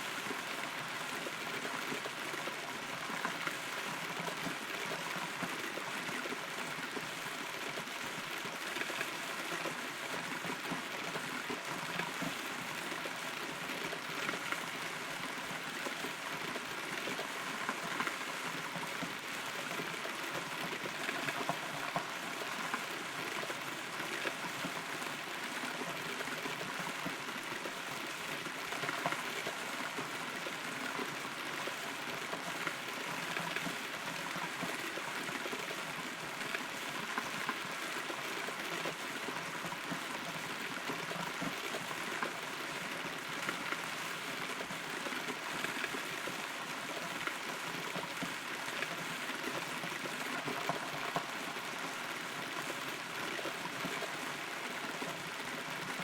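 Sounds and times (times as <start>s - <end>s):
small drips and patters: 0.0s - 56.0s
steady rain: 0.0s - 56.0s.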